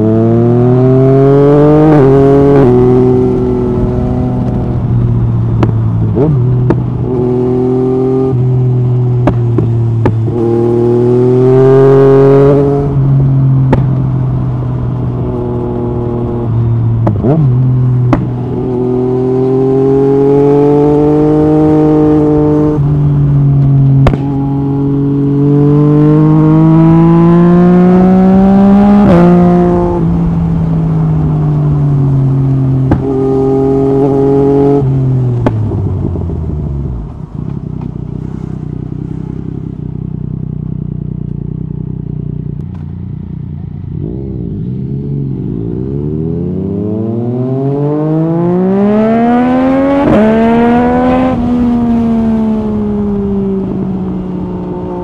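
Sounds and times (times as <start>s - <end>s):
motorcycle engine accelerating hard: 0.0s - 55.0s.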